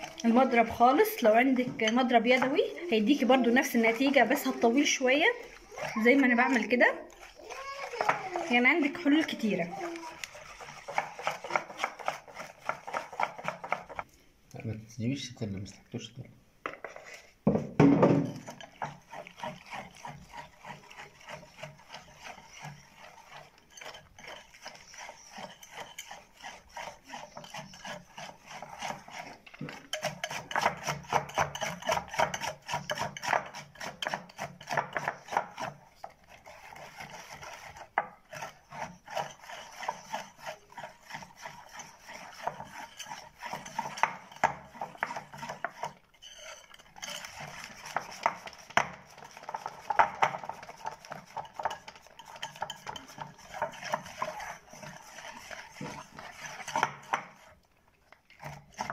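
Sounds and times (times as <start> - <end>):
whisk scraping ceramic bowl: 0.0 - 16.0, 16.7 - 58.9.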